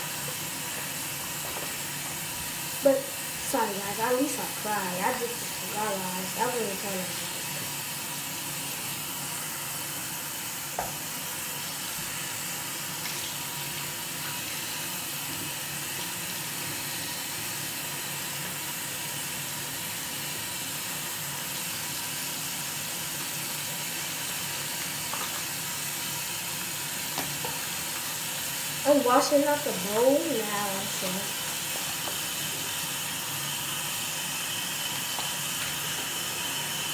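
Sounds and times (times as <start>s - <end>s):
tap water running into sink: 0.0s - 36.9s.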